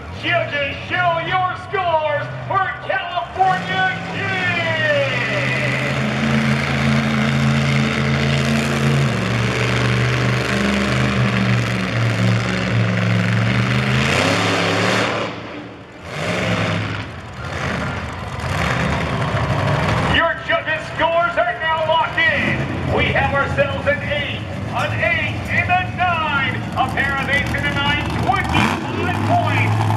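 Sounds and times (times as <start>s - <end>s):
monster truck engine running: 0.0s - 29.9s.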